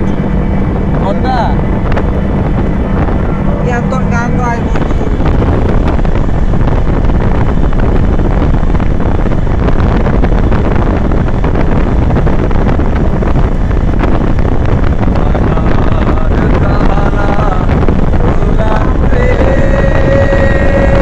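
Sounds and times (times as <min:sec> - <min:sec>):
vehicle road noise: 0:00.0 - 0:21.0
wind buffeting microphone: 0:00.0 - 0:21.0.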